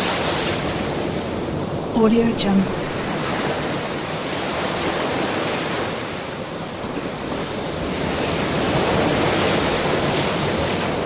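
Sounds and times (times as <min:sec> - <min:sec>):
ocean surf breaking on shore: 0:00.0 - 0:11.0.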